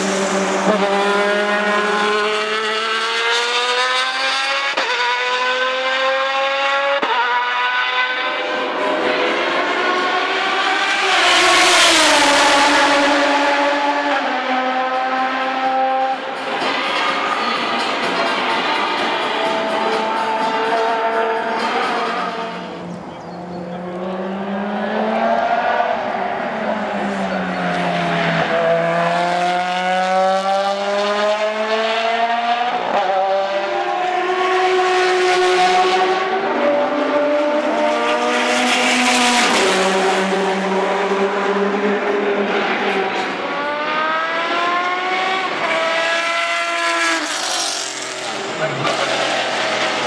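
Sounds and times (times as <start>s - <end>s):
race car engines passing: 0.0s - 50.0s.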